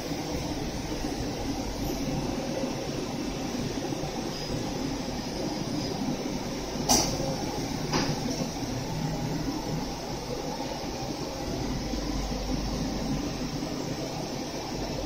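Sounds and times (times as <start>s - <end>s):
conveyor machine rolling hum: 0.0s - 15.0s.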